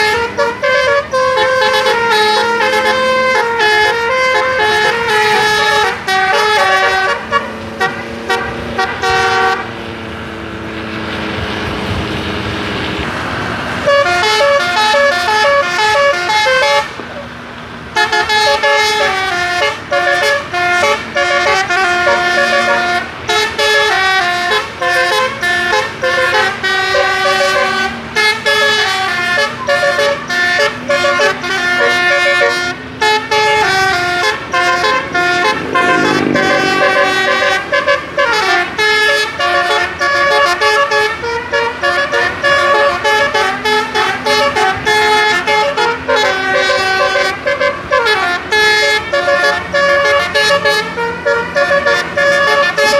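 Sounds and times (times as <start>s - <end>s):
multi-tone bus air horns melody: 0.0s - 9.8s, 13.7s - 17.2s, 17.9s - 52.9s.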